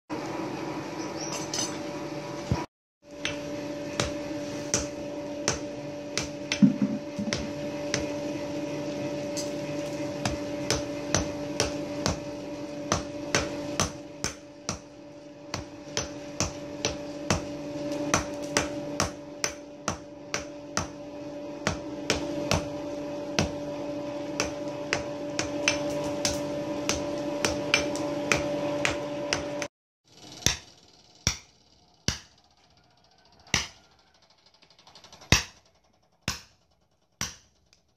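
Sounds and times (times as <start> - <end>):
steady low hum: 0.1 - 32.8.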